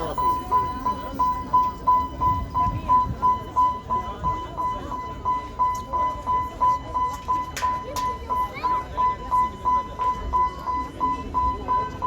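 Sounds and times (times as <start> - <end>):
level crossing alarm beeping: 0.0 - 12.0.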